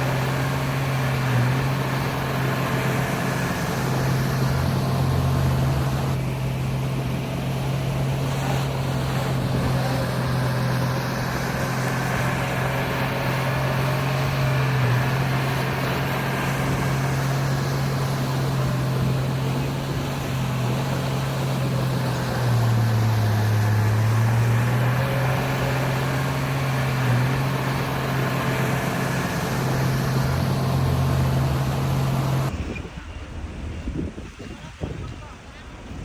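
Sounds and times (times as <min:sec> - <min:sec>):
heavy diesel engine droning: 0:00.0 - 0:33.8.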